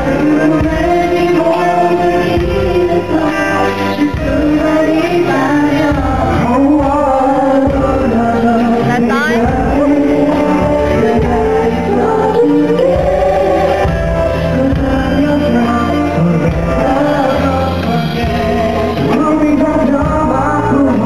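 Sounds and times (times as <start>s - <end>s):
live pop concert music with singing: 0.0s - 21.0s.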